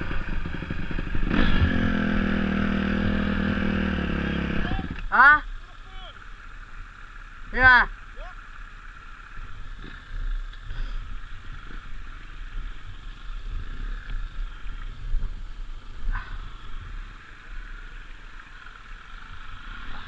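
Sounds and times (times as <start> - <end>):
motorbike engine hum: 0.0 - 20.0.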